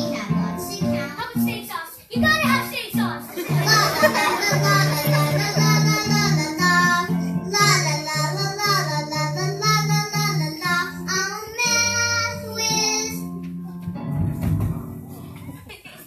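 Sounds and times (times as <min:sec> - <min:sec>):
child singing into a microphone: 0:00.0 - 0:13.3
instrumental accompaniment: 0:00.0 - 0:15.7.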